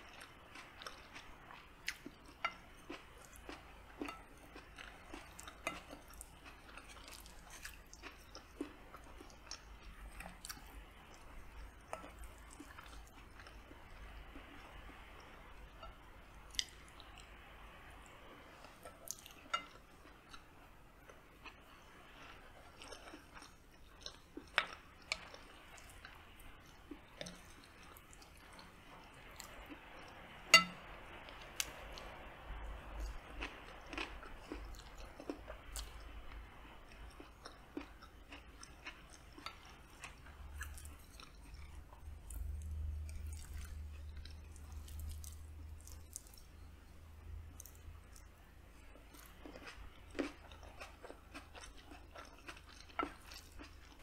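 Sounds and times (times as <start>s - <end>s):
chewing food: 0.0s - 54.0s.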